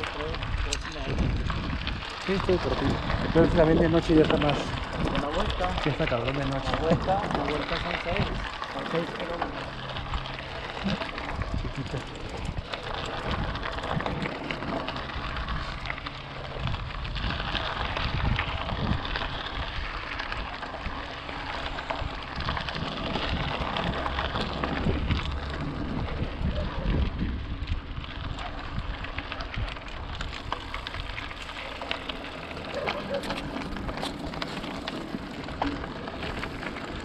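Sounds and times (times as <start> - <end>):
bike clicks and rattles: 0.0 - 37.0
bike tyres on dirt and stones: 0.0 - 37.0
wind buffeting microphone: 0.0 - 37.0.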